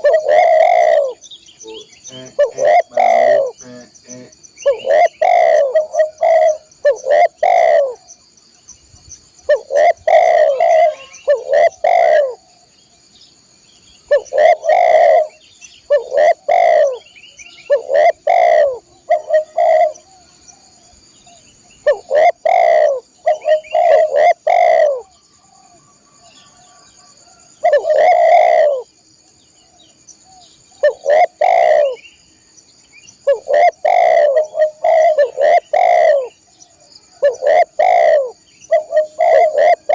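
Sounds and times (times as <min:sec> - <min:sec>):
dove cooing: 0:00.0 - 0:08.1, 0:09.4 - 0:12.6, 0:14.1 - 0:28.9, 0:30.3 - 0:32.0, 0:33.2 - 0:39.9.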